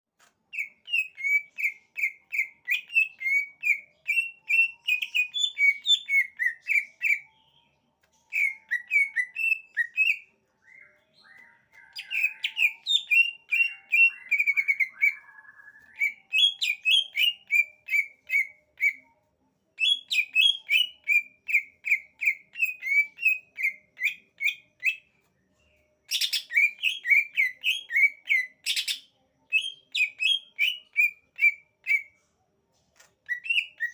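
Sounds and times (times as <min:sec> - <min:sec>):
bird singing whistled notes: 0:00.5 - 0:19.1, 0:19.8 - 0:32.1, 0:33.2 - 0:33.9.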